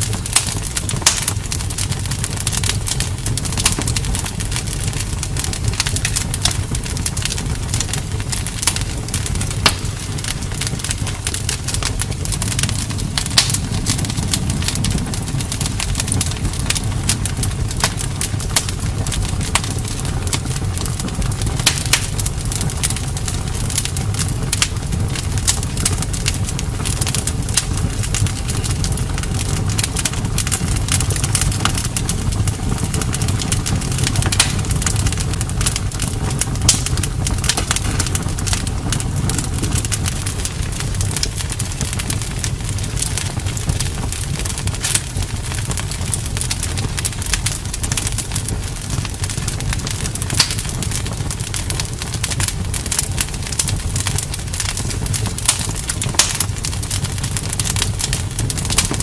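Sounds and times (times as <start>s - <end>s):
low rumble of flame: 0.0s - 59.0s
wood fire crackling and popping: 0.0s - 59.0s.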